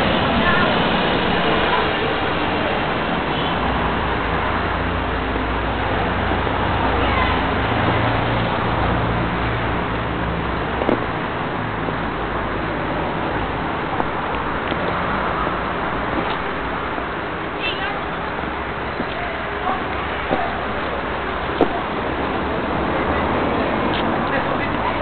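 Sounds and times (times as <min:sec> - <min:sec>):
low engine rumble: 0:00.0 - 0:25.0
street noise hiss: 0:00.0 - 0:25.0.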